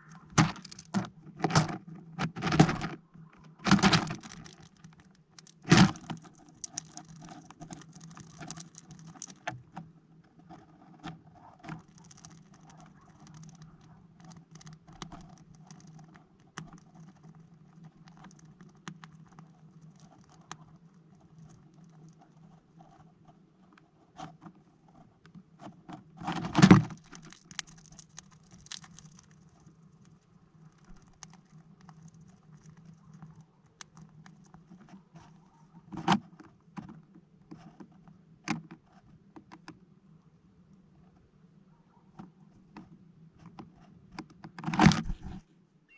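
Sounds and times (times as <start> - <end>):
birds pecking at plastic feeder: 0.0 - 24.4, 25.3 - 39.8, 43.5 - 45.4.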